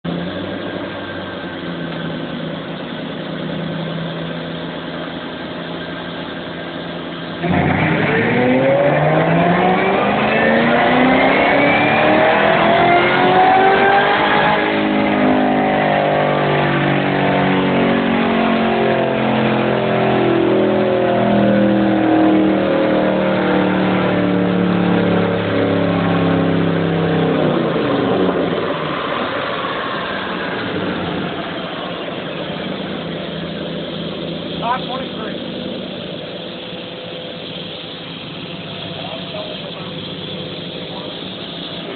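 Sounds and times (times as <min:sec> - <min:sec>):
car engine revving on dyno: 0:00.0 - 0:41.9.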